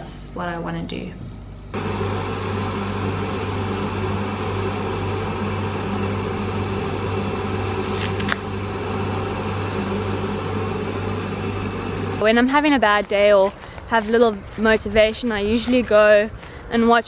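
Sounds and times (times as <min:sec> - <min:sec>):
machine hum with low drone: 0:00.0 - 0:14.7.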